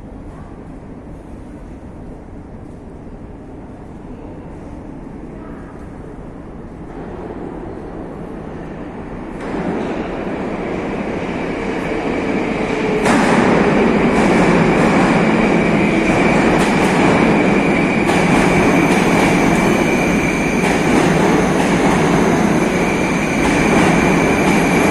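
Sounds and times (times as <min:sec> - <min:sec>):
high train whine: 0:00.0 - 0:24.9
train wheels rumbling on rails: 0:00.0 - 0:24.9.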